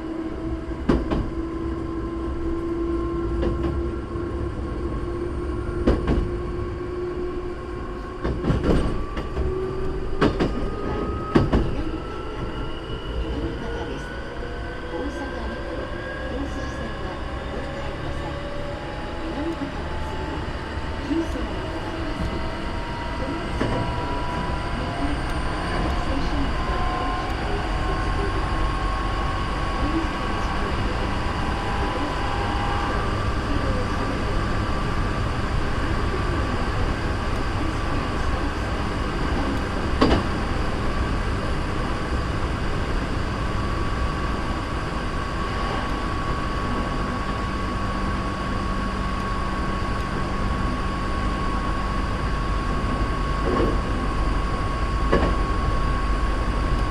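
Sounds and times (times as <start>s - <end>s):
electric train rumble and motor whine: 0.0s - 56.9s.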